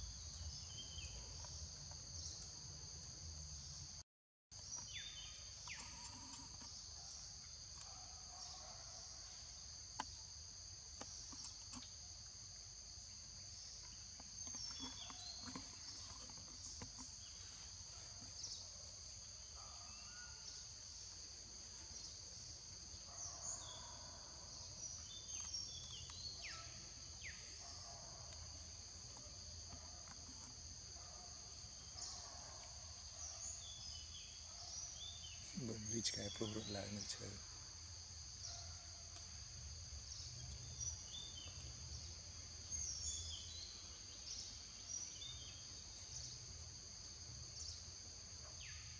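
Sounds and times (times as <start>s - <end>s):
high-pitched insect chorus: 4.6s - 48.9s.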